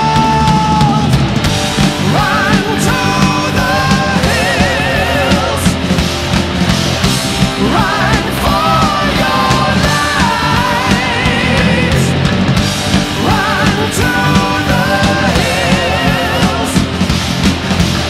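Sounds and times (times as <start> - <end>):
heavy rock music: 0.0 - 18.0.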